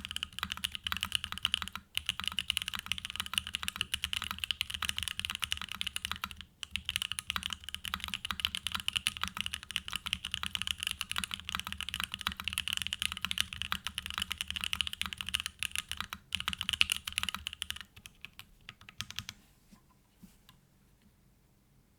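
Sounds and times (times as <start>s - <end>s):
mechanical keyboard typing: 0.0s - 19.4s.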